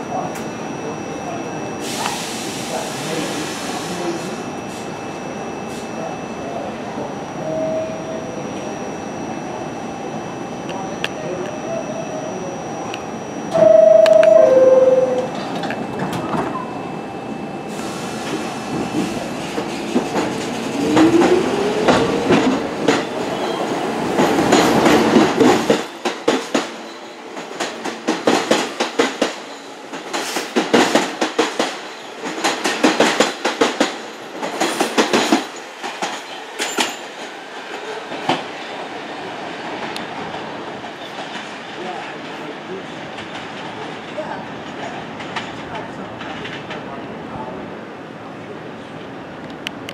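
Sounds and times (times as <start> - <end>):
subway train motors whining: 0.0 - 49.9.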